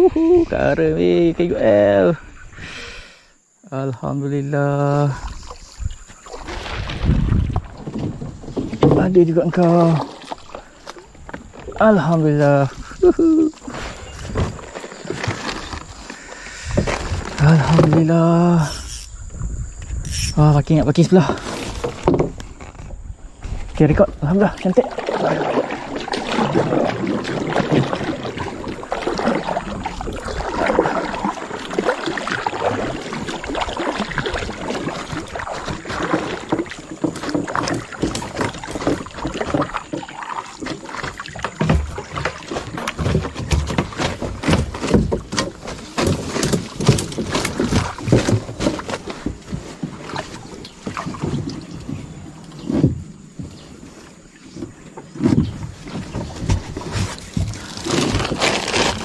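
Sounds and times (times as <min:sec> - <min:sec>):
paddle strokes splashing in water: 0:04.8 - 0:19.1, 0:21.1 - 0:59.0.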